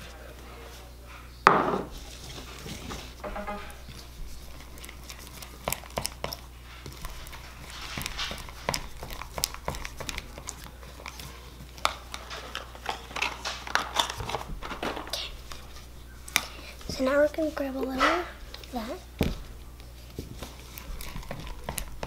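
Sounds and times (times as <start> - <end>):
fork stirring sticky slime: 1.9 - 14.4, 15.1 - 22.0.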